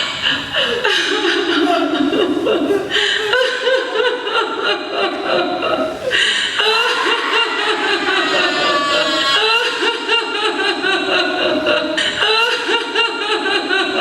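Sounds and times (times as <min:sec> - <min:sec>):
people laughing: 0:00.0 - 0:14.0.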